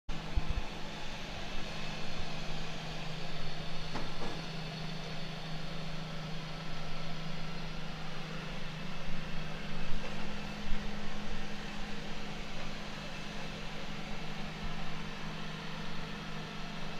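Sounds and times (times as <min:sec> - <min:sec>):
robotic vacuum cleaner running: 0:00.2 - 0:16.9.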